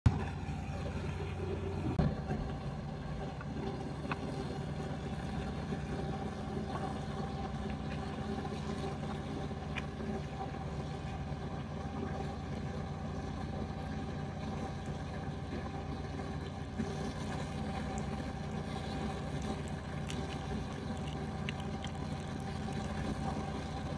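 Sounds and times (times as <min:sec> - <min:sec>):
low mechanical hum: 0:00.1 - 0:23.9.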